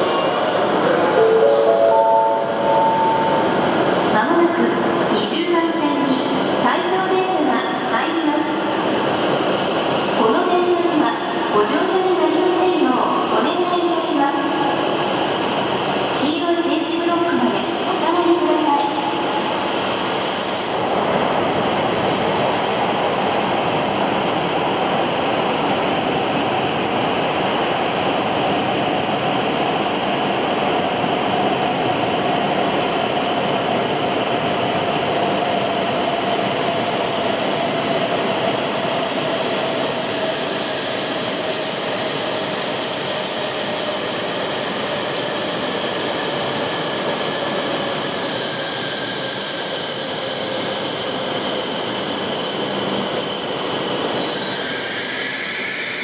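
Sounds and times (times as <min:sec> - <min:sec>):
train rushing rumble: 0:00.0 - 0:50.8.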